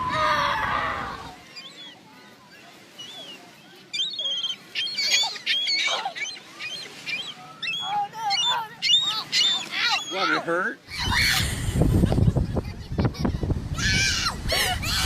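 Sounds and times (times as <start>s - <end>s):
seagulls calling: 0.0s - 15.0s.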